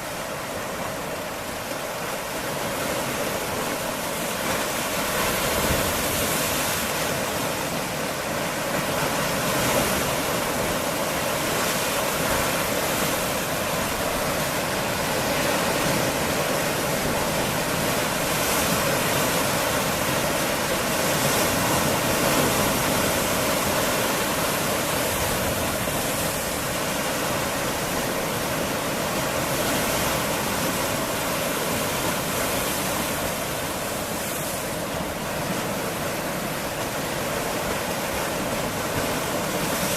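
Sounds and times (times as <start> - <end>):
surf washing over rocks: 0.0 - 39.9.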